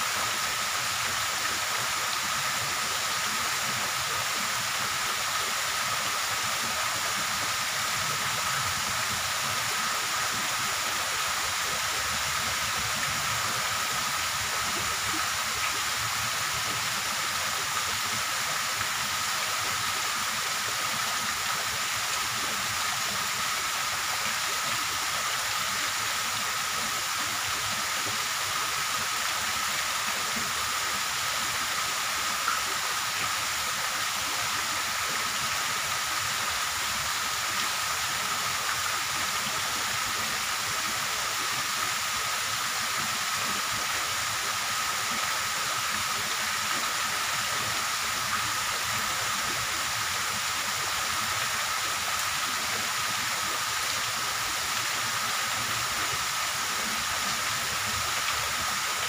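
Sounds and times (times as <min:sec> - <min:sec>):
steady hissing noise: 0:00.0 - 0:59.0.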